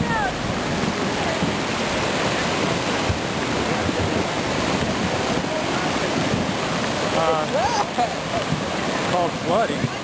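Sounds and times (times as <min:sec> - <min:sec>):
floodwater rushing over rock: 0:00.0 - 0:10.0.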